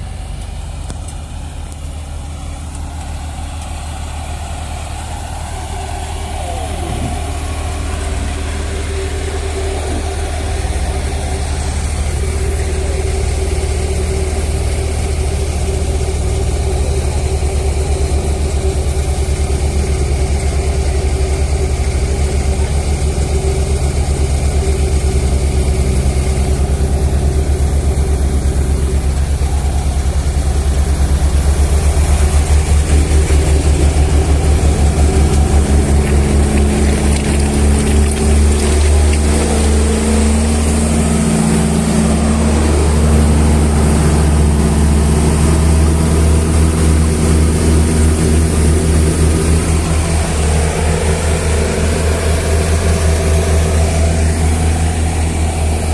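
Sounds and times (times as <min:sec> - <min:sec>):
falling whine: 0:00.0 - 0:55.9
heavy vehicle engine running: 0:00.0 - 0:55.9.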